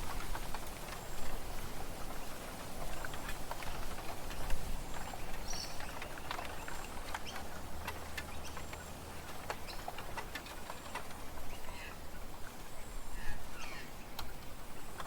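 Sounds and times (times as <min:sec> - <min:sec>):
bamboo stalks clicking and knocking: 0:00.0 - 0:12.8.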